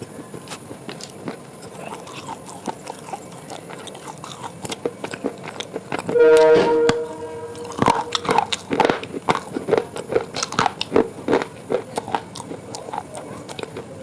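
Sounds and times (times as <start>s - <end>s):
person chewing crisp food: 0.0s - 14.0s.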